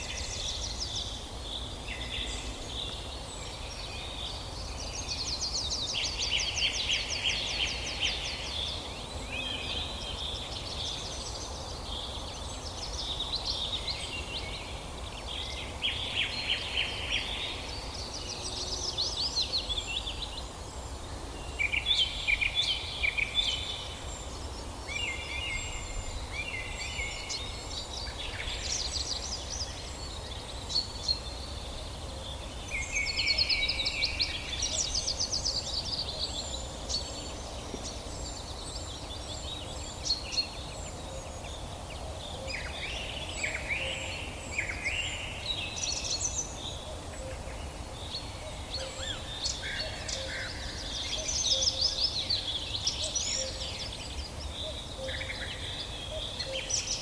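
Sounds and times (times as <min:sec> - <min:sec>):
birds singing and calling: 0:00.0 - 0:57.0.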